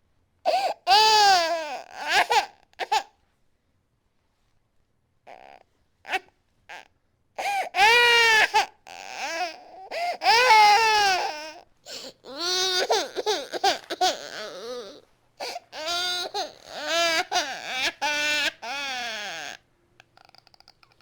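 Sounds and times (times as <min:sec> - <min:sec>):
infant crying hard: 0:00.5 - 0:03.1, 0:05.3 - 0:19.6.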